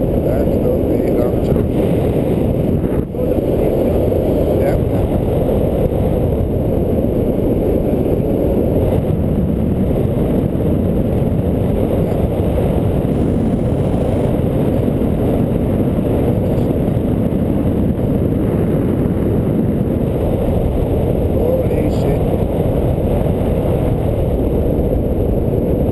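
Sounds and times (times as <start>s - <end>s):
wind noise on microphone: 0.0s - 25.9s.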